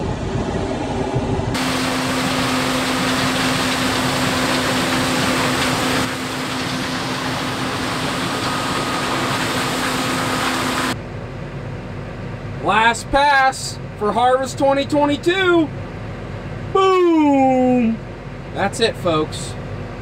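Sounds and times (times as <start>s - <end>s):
combine harvester engine and fan: 0.0s - 20.0s.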